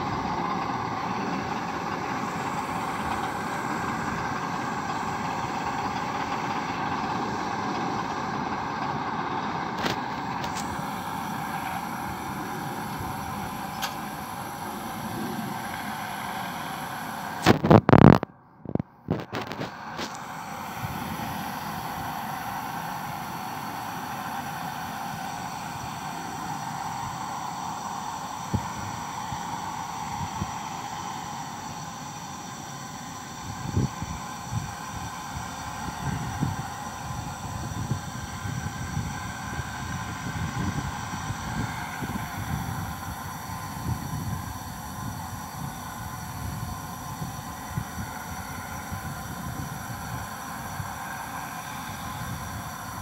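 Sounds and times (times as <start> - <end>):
water spray rushing hiss: 0.0 - 17.7, 19.3 - 53.0.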